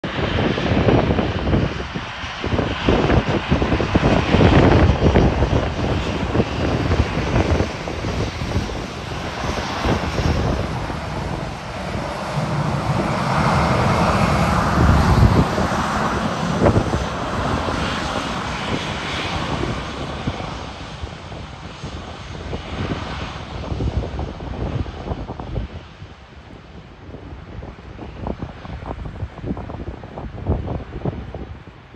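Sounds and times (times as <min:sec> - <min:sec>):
jet engines humming: 0:00.0 - 0:31.9.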